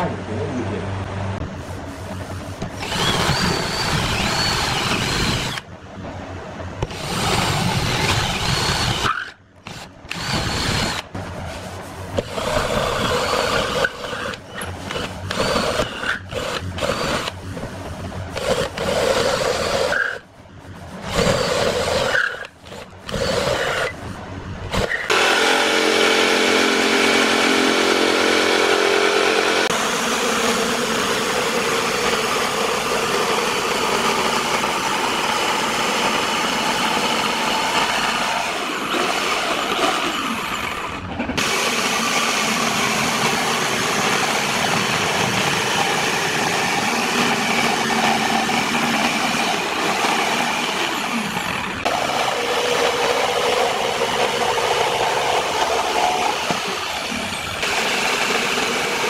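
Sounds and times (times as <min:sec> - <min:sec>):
electric drill boring plywood: 0:02.4 - 0:05.7, 0:06.8 - 0:11.1, 0:12.1 - 0:20.3, 0:21.0 - 0:24.1, 0:24.7 - 0:59.0
jigsaw cutting plywood: 0:02.6 - 0:05.7, 0:06.8 - 0:11.1, 0:12.1 - 0:17.4, 0:18.3 - 0:20.2, 0:21.0 - 0:24.0, 0:24.7 - 0:59.0.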